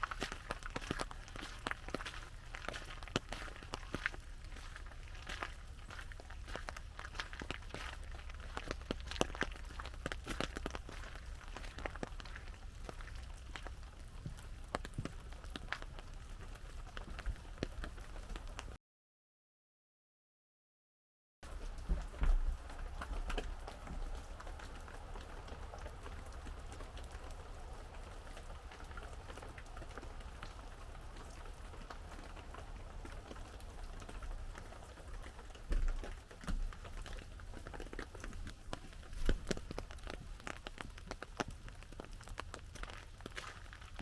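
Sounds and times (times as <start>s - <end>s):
rain pattering on umbrella: 0.0s - 18.8s, 21.4s - 44.0s.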